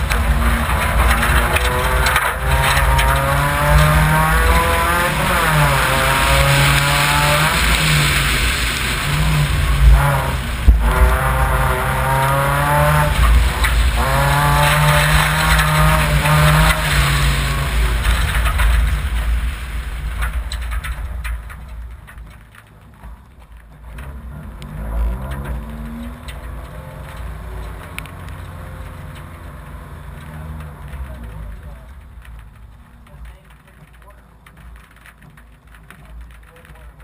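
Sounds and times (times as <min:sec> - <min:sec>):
rally car engine revving: 0:00.0 - 0:37.0
tyres hissing on wet gravel: 0:00.0 - 0:37.0.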